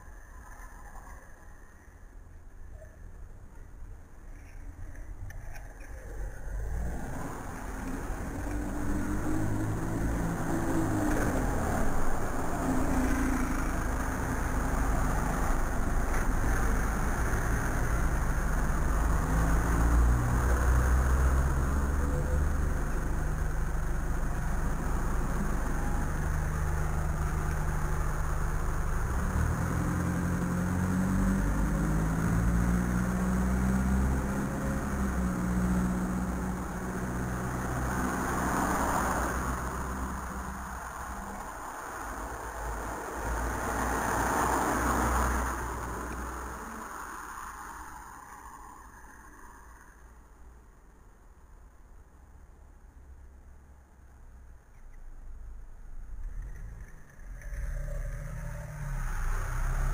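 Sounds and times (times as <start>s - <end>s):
car engines: 0.0s - 59.9s
bus engine hum: 3.6s - 59.9s.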